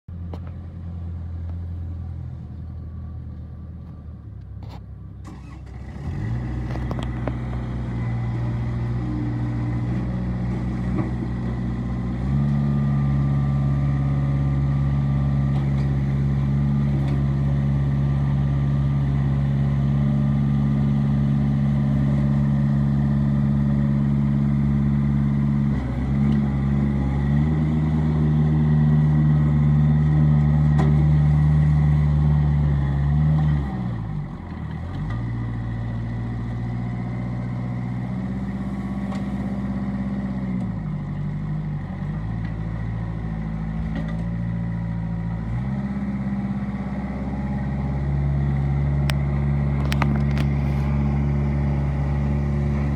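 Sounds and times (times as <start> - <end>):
tractor diesel engine revving: 5.2 - 52.9.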